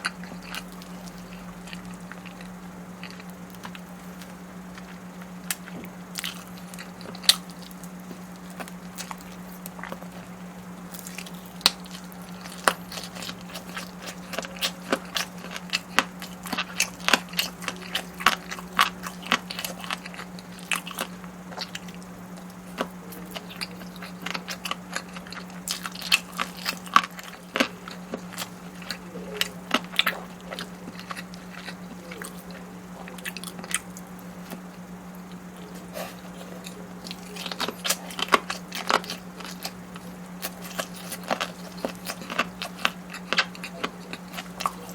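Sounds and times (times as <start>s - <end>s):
low electrical hum: 0.0s - 44.9s
person biting and chewing food: 0.0s - 44.9s.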